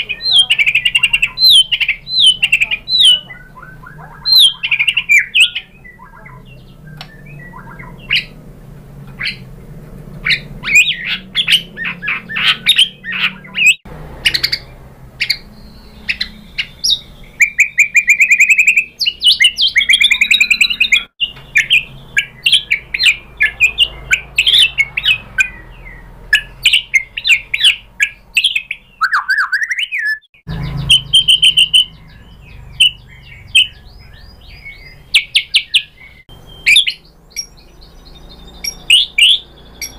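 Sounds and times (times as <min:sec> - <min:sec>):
bird singing whistles and trills: 0:00.0 - 0:08.4, 0:09.2 - 0:09.4, 0:10.2 - 0:39.9.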